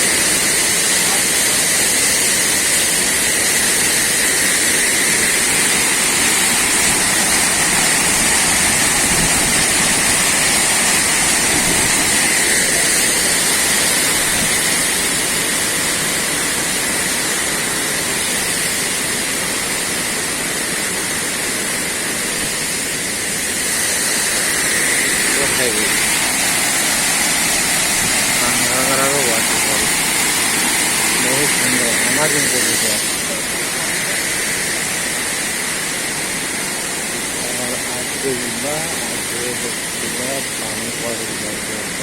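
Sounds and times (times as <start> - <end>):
waterfall rushing over rocks: 0.0 - 42.0.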